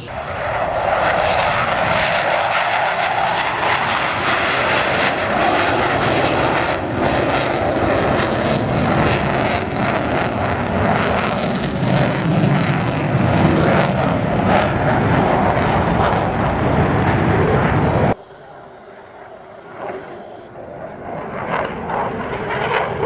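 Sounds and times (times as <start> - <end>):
jet fighters flying past: 0.0 - 23.0.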